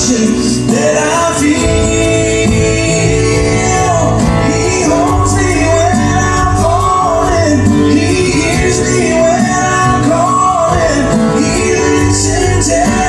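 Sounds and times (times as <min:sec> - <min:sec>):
live band playing gospel instrumental: 0:00.0 - 0:13.0.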